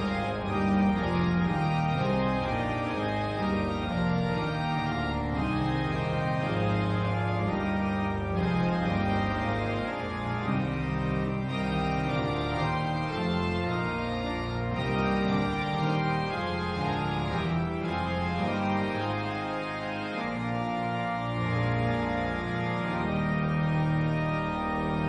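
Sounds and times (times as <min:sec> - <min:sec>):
organ chords: 0:00.0 - 0:25.0.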